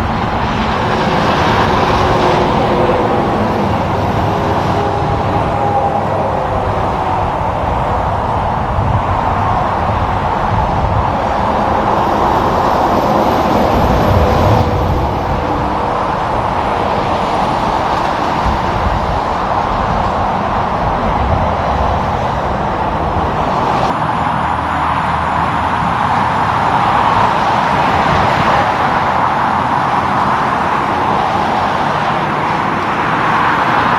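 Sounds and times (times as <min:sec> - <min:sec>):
engine rumble: 0:00.0 - 0:33.9.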